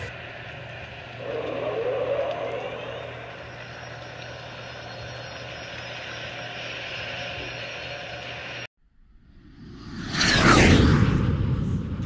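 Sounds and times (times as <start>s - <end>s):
spaceship engine hum: 0.0s - 12.0s.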